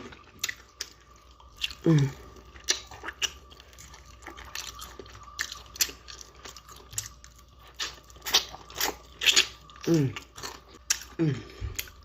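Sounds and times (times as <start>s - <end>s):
person chewing crispy food: 0.0s - 12.0s.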